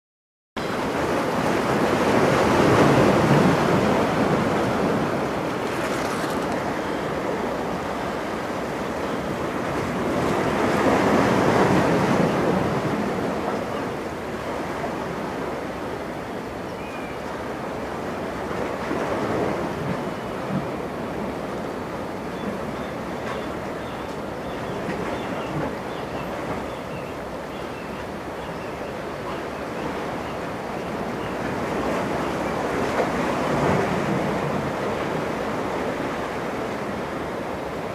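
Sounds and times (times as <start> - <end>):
sea waves breaking: 0.6 - 37.9.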